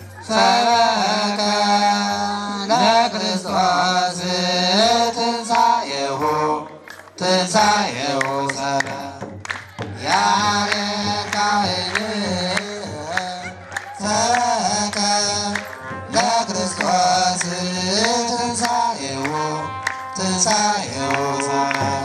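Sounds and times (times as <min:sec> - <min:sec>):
drum beats: 0:00.0 - 0:22.0
men chanting together: 0:00.1 - 0:22.0.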